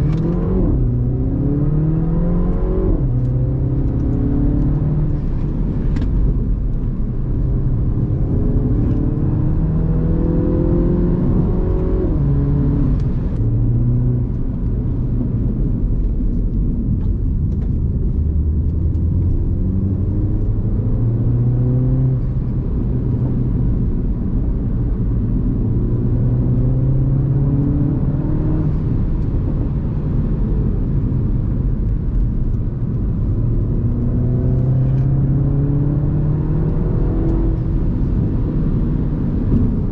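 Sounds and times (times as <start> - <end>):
car engine revving: 0.0 - 16.2, 17.5 - 30.7, 32.8 - 39.9.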